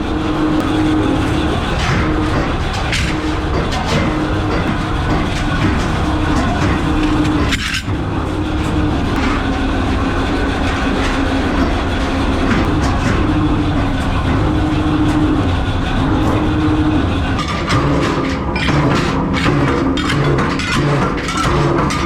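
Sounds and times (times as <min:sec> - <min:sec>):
factory machinery running: 0:00.0 - 0:22.0
humming tone: 0:00.0 - 0:22.0.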